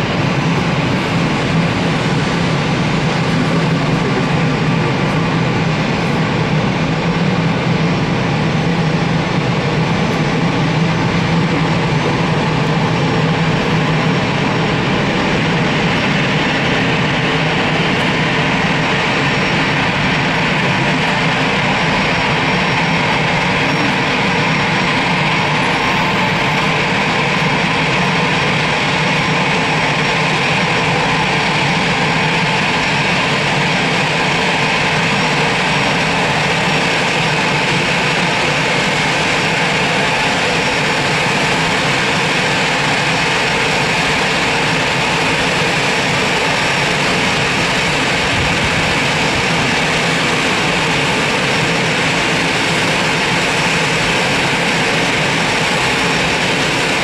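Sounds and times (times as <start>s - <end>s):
faint steady whine: 0.0s - 57.0s
jet engine noise: 0.0s - 57.0s.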